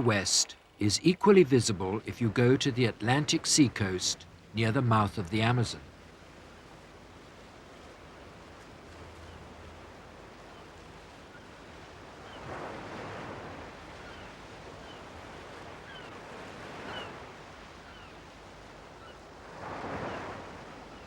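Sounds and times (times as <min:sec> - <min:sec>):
surf breaking on shore: 0:00.0 - 0:06.0, 0:07.0 - 0:18.0, 0:18.8 - 0:21.0.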